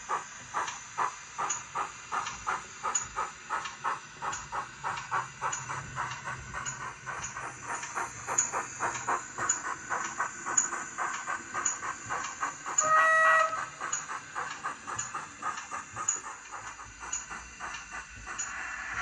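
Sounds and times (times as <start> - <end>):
model train steam chuffs: 0.0 - 19.0
steam hiss: 0.0 - 19.0.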